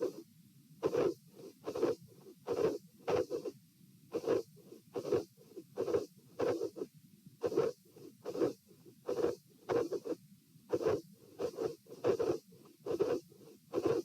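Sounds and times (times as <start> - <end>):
heartbeat through stethoscope: 0.8 - 3.5, 4.2 - 6.8, 7.4 - 14.0.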